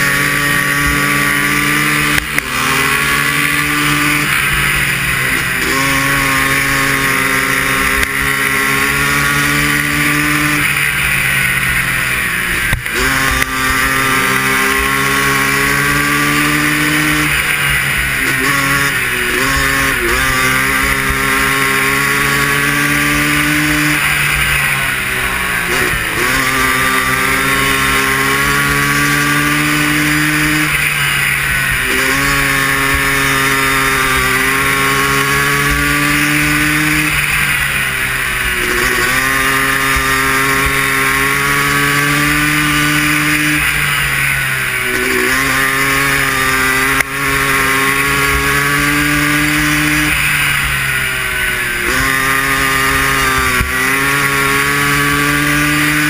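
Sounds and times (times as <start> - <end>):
atv engine at high revs: 0.0 - 56.0.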